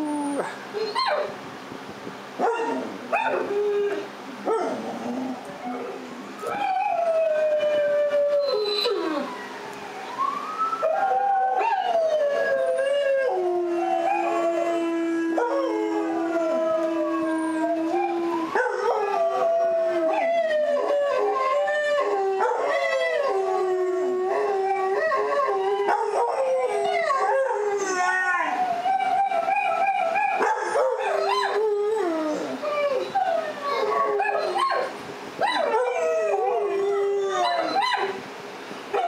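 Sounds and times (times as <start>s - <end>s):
dogs howling: 2.4s - 9.4s, 10.8s - 38.2s.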